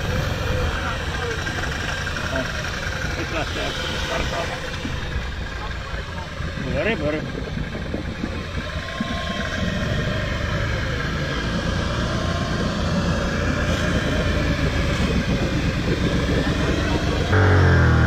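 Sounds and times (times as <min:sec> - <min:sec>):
atv engine running: 0:00.0 - 0:18.0
water churning: 0:00.0 - 0:18.0.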